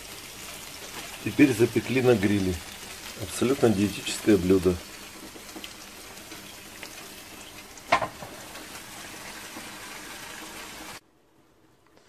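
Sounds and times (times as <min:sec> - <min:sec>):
fish sizzling on a grill: 0:00.0 - 0:11.0.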